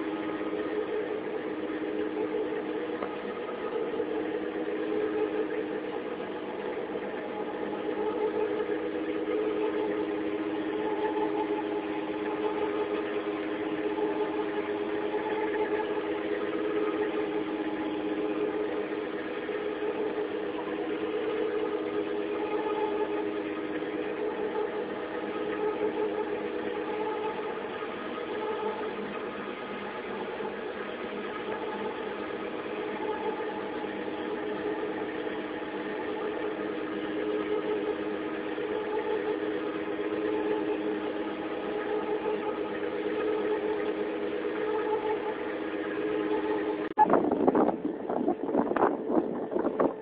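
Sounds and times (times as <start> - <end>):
boat engine droning: 0.0 - 50.0.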